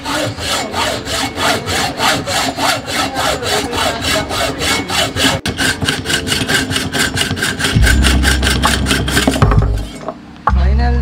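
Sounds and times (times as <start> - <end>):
hacksaw cutting metal tube: 0.0 - 10.2.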